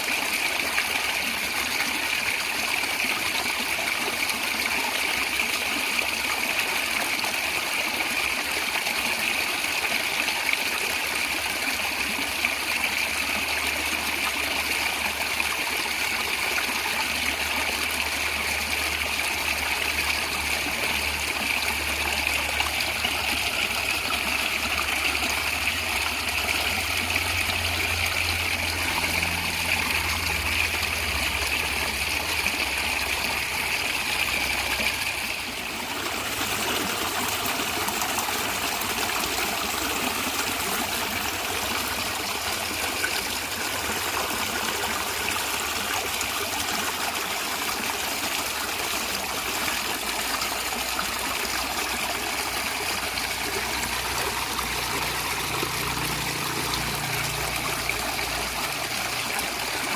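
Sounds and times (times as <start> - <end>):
stream flowing and gurgling: 0.0 - 59.9.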